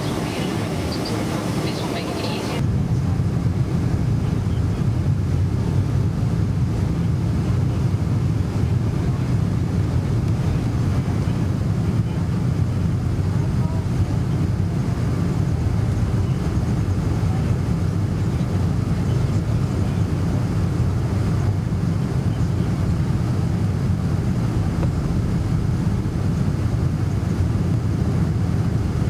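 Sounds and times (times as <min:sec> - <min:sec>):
airplane engines rumbling in cabin: 0:00.0 - 0:29.0.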